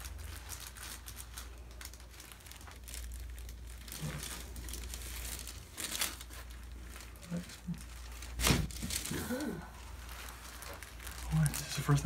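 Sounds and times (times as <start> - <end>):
crinkling and rustling: 0.0 - 12.0.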